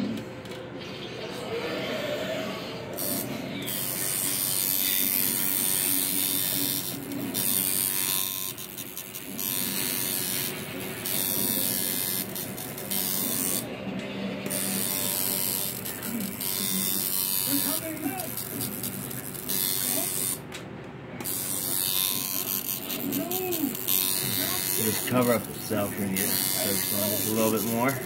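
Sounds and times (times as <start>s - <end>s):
tattoo machine buzzing: 2.9s - 13.7s, 14.4s - 20.5s, 21.2s - 28.0s.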